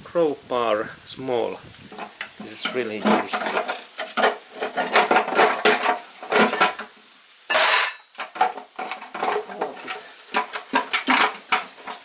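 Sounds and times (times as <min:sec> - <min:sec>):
crowbar clinking and scraping metal: 0:01.9 - 0:12.0.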